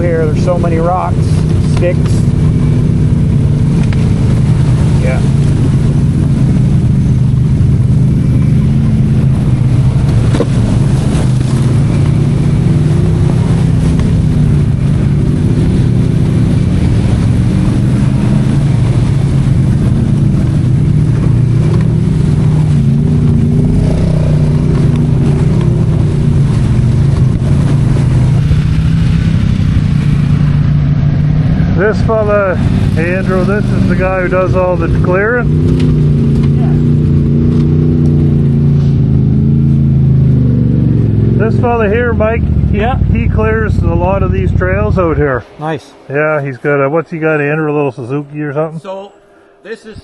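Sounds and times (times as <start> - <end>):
atv engine running: 0.0 - 49.7.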